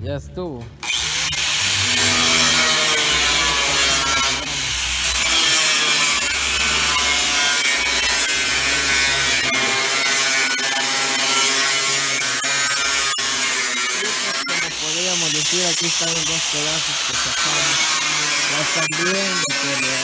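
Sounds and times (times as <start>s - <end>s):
angle grinder grinding steel: 0.8s - 20.0s.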